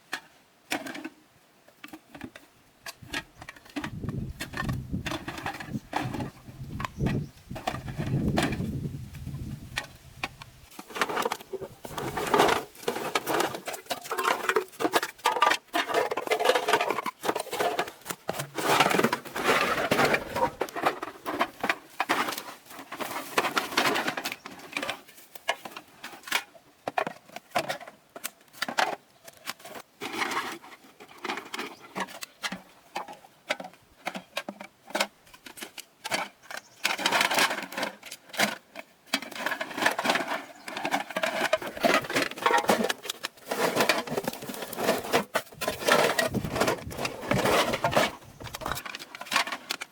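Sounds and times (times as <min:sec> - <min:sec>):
rustling: 0:02.8 - 0:49.9.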